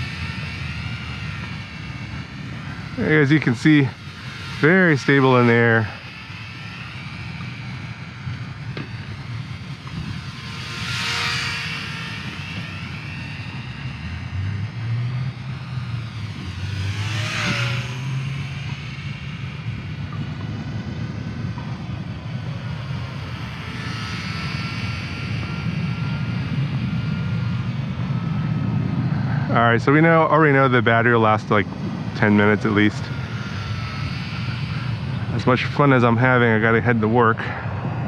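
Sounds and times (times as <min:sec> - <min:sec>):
low rumble: 0:00.0 - 0:38.0
model plane propeller whining: 0:00.0 - 0:38.0.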